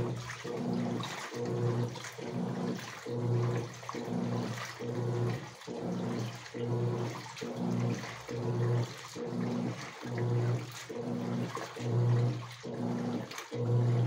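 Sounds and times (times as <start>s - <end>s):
washing machine motor humming: 0.0s - 14.0s
water and laundry sloshing: 0.0s - 14.0s.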